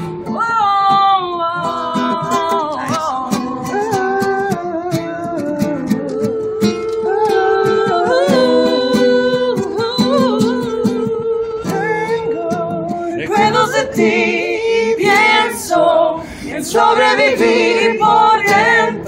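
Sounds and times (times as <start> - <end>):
acoustic guitar strumming: 0.0 - 19.0
people singing together: 1.8 - 19.0.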